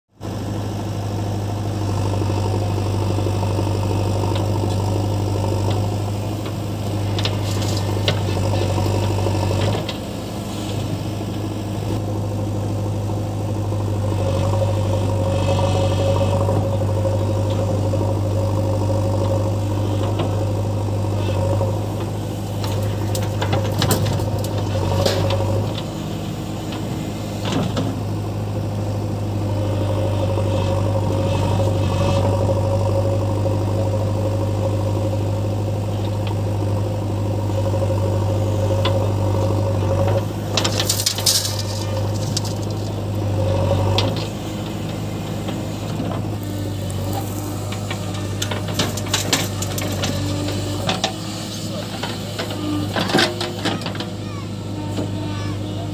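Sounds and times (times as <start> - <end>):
diesel engine running: 0.1 - 55.9.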